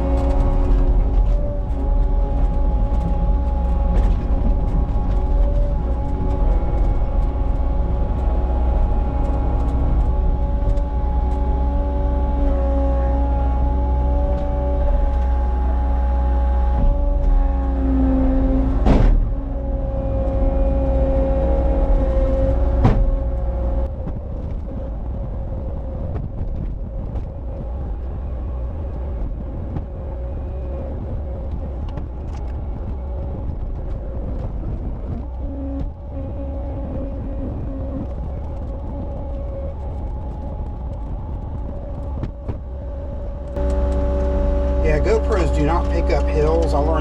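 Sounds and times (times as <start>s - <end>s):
diesel engine rumbling under load: 0.0s - 39.3s, 40.0s - 47.0s.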